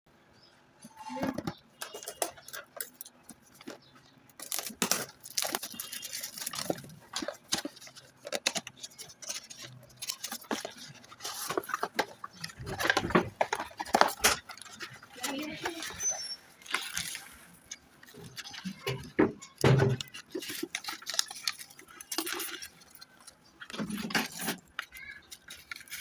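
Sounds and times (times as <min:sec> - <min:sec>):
plastic parts clicking: 0:01.4 - 0:26.0
packaging rustling: 0:01.8 - 0:26.0.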